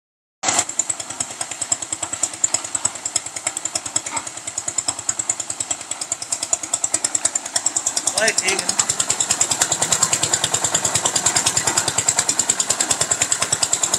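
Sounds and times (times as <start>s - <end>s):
small diesel engine chugging: 0.4s - 13.9s.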